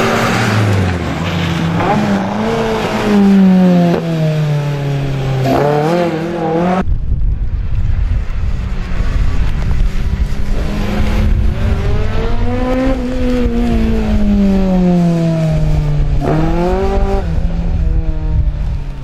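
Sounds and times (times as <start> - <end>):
race car engine revving: 0.0 - 6.8, 8.8 - 18.4.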